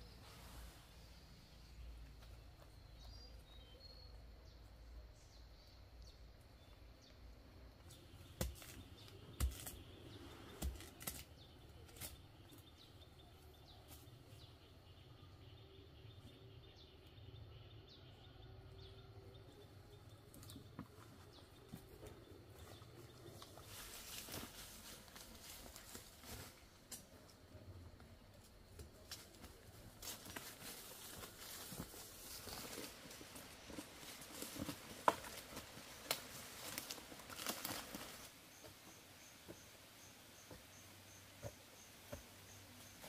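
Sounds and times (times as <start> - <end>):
background hum: 0.0 - 43.0.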